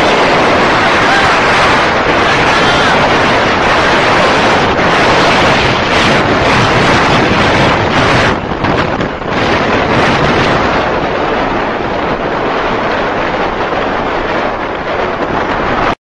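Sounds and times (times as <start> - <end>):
wind and road noise: 0.0 - 16.0
wind buffeting microphone: 0.0 - 16.0.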